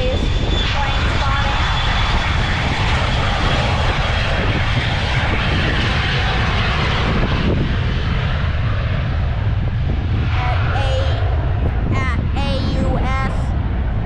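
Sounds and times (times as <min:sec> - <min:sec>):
airplane engine rumble: 0:00.0 - 0:14.0.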